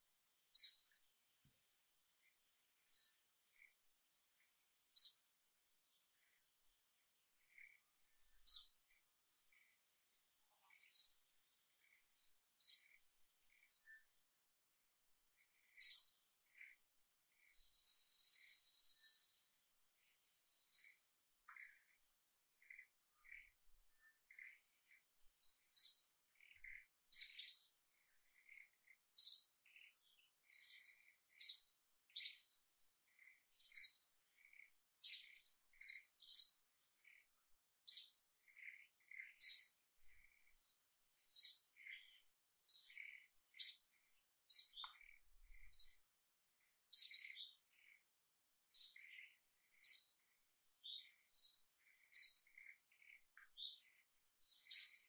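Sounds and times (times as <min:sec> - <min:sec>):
bird chirping: 0:00.0 - 0:55.0
faint high insect tone: 0:00.0 - 0:55.0.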